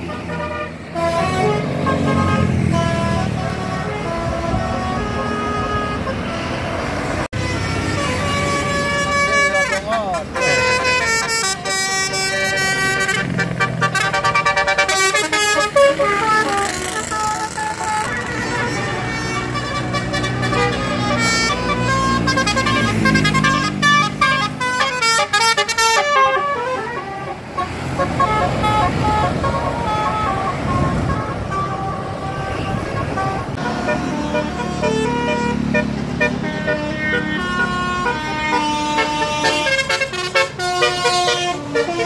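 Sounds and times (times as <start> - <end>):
air horns tooting melodies: 0.0 - 42.0
bus engines: 0.0 - 42.0
road traffic: 0.0 - 42.0.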